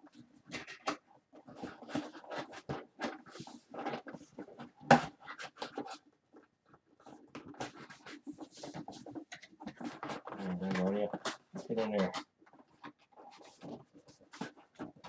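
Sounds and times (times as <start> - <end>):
cardboard crinkling and creasing: 0.1 - 15.0.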